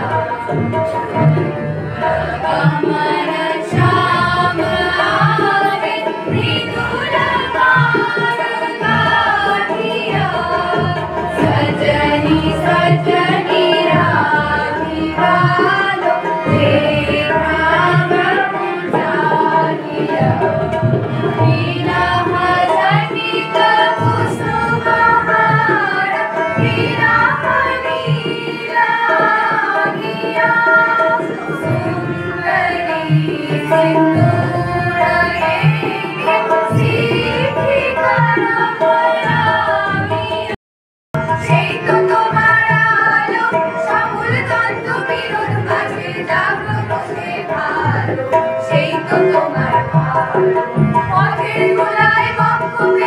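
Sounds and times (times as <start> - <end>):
women singing into microphones: 0.0 - 40.6, 41.2 - 53.0
tabla: 0.0 - 53.0.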